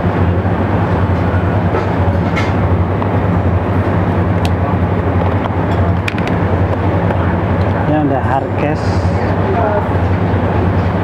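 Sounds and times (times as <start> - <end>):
loud low hum: 0.0 - 11.0.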